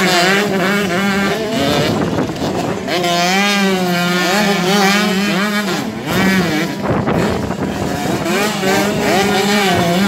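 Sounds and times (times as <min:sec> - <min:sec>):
motocross bikes revving: 0:00.0 - 0:10.0.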